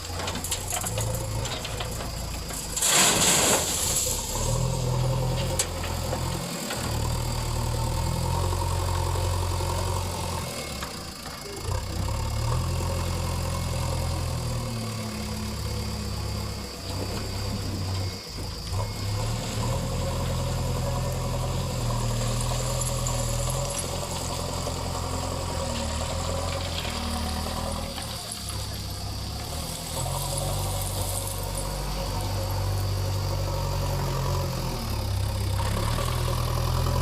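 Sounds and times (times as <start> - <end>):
diesel engine under load: 0.0 - 37.0.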